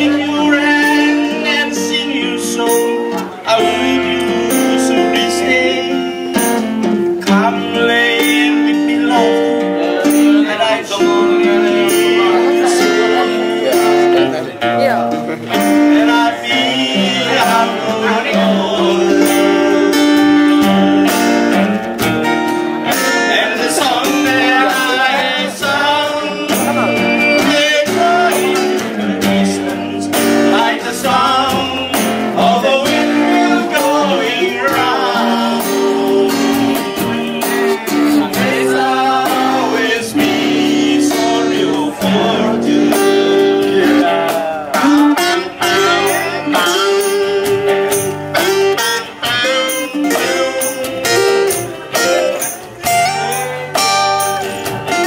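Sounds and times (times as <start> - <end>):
man singing through loudspeakers: 0.0 - 21.7, 22.7 - 55.0
guitar accompaniment: 0.0 - 55.0.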